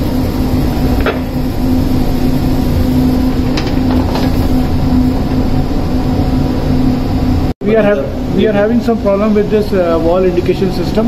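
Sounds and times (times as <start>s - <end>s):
machinery drone with low rumble: 0.0s - 11.0s.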